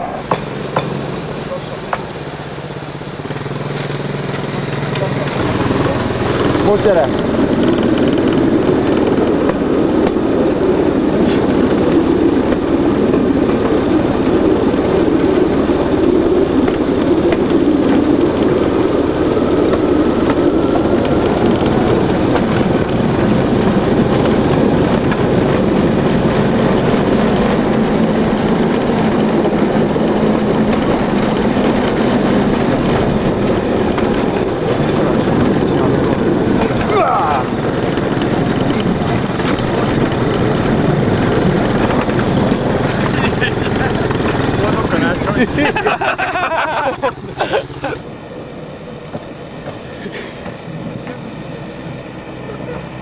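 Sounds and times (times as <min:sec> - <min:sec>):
small rail vehicle engine running: 0:00.0 - 0:53.0.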